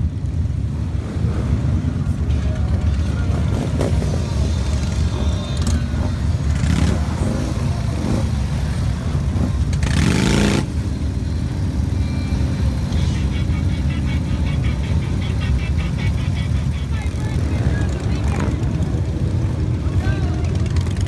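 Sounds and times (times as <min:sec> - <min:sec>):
motorcycle engine revving: 0:00.0 - 0:21.0
motorcycle engines rumbling: 0:00.0 - 0:21.0.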